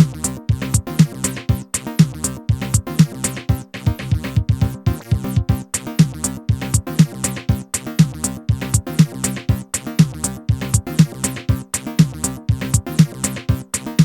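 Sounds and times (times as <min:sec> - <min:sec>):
fast hi-hat ticks: 0:00.0 - 0:14.0
techno drum machine beat: 0:00.0 - 0:14.0.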